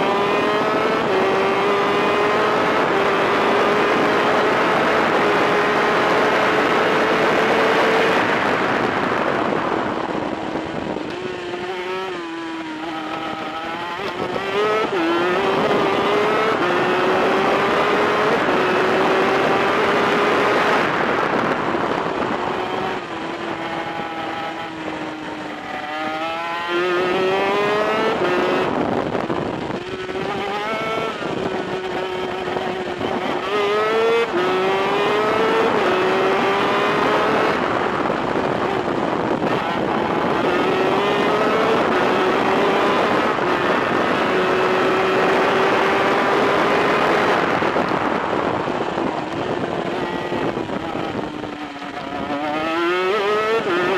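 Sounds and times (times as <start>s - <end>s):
racing kart engine: 0.0s - 53.9s.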